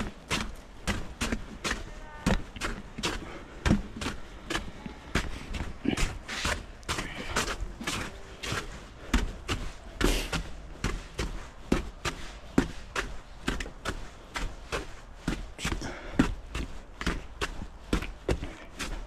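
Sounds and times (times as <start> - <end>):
footsteps walking: 0.0 - 19.0.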